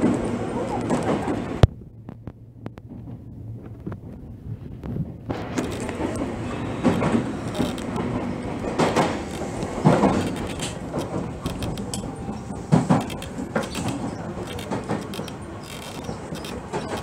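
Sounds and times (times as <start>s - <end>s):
train clacks and knocks: 0.0s - 17.0s
train wheels rumbling on rails: 0.0s - 17.0s.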